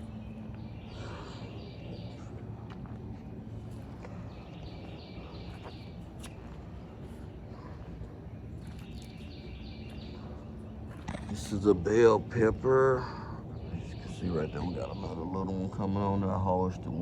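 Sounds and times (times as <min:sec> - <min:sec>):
bird singing: 0:00.0 - 0:17.0
low steady rumble: 0:00.0 - 0:17.0.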